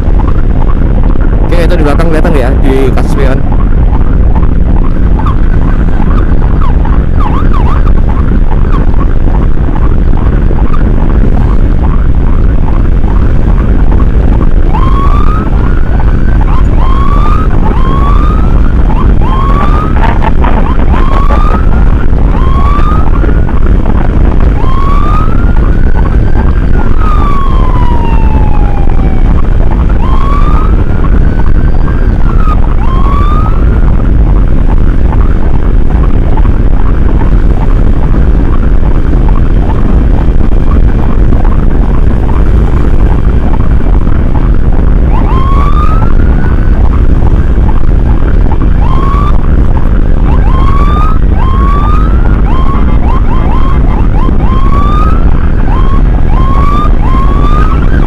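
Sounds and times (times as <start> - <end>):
emergency siren whooping: 0.0 - 58.0
vehicle rumble: 0.0 - 58.0.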